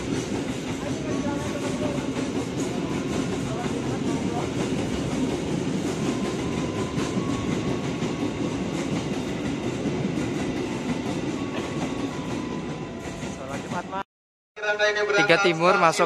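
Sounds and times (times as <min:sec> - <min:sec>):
steel wheels rumbling on rail: 0:00.0 - 0:14.0.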